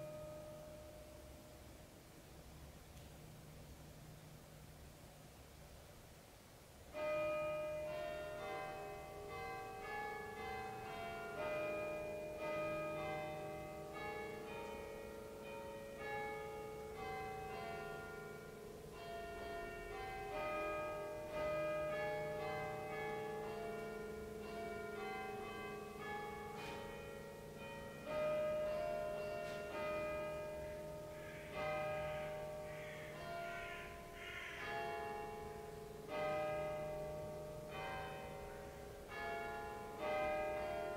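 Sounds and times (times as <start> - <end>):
bells ringing: 0.0 - 1.8, 6.9 - 40.9.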